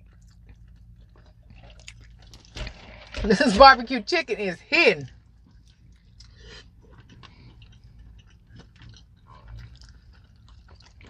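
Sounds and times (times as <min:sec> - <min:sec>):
chewing food: 0:00.0 - 0:03.1, 0:05.0 - 0:11.0
low steady hum: 0:00.0 - 0:11.0.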